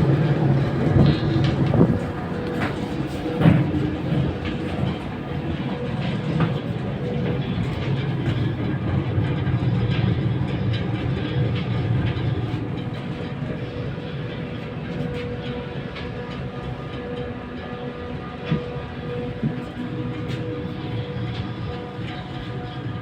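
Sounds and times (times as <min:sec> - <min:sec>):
blower running with low rumble: 0:00.0 - 0:23.0.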